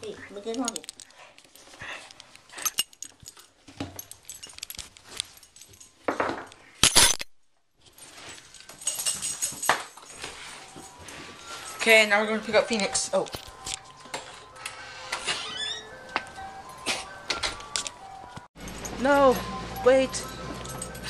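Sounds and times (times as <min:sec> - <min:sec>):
dog collar jingling: 0:00.3 - 0:14.8, 0:15.5 - 0:21.0.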